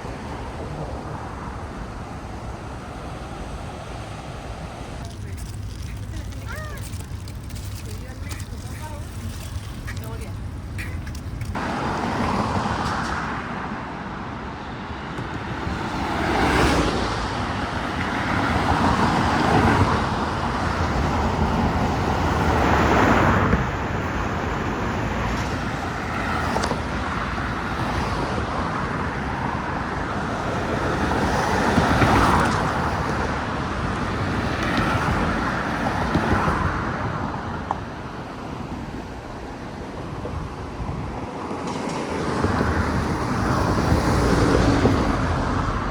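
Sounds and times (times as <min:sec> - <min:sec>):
cars passing: 0:00.0 - 0:45.9
steady traffic hum: 0:00.0 - 0:45.9.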